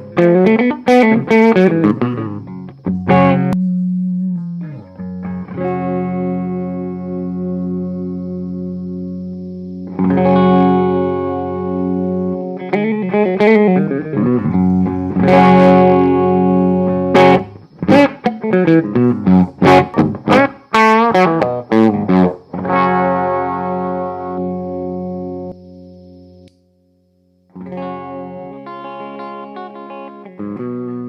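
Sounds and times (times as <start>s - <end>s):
distorted electric guitar: 0.0s - 26.7s, 27.4s - 31.0s.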